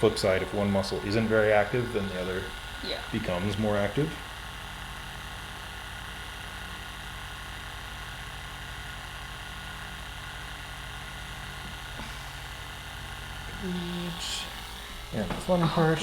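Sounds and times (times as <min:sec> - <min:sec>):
massage gun motor pulsing: 0:00.0 - 0:16.0.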